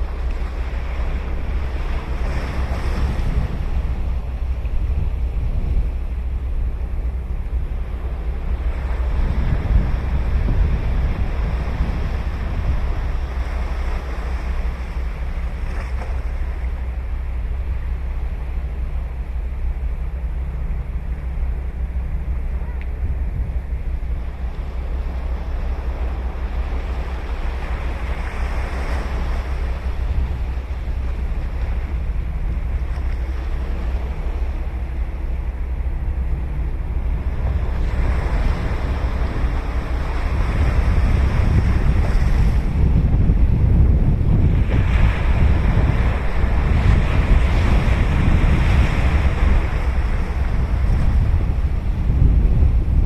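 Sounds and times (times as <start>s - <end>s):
ocean surf breaking: 0.0s - 53.0s
wind buffeting microphone: 0.0s - 53.0s.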